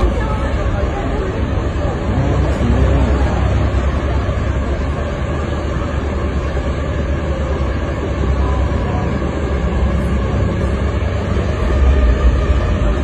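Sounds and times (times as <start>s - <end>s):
low outdoor ambient rumble: 0.0s - 13.0s.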